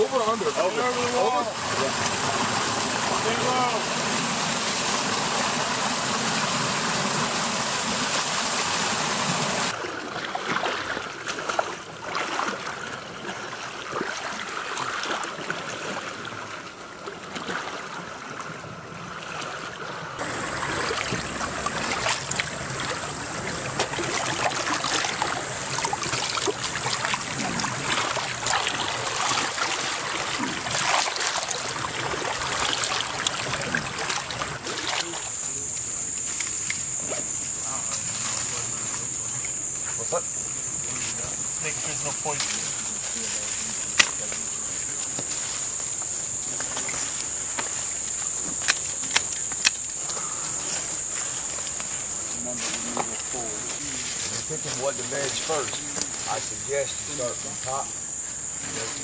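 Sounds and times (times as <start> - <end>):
small splashes: 0.0 - 59.0
water rushing and sloshing: 0.0 - 59.0.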